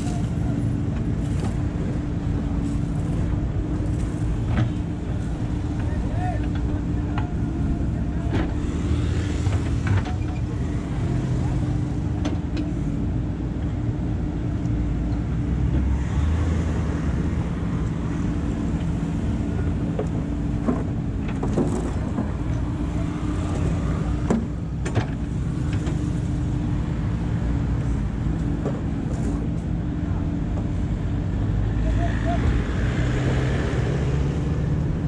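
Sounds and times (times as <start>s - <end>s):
diesel engine under hydraulic load: 0.0s - 35.0s.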